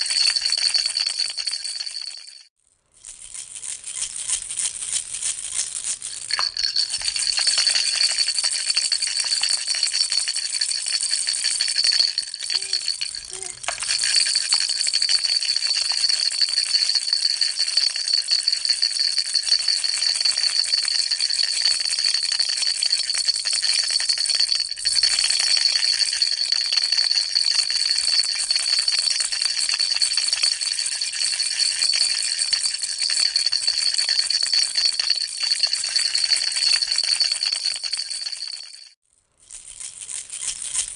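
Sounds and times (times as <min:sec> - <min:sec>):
steady high ringing tone: 0:00.0 - 0:02.5, 0:06.3 - 0:39.0
baby rattle shaking: 0:00.0 - 0:40.9.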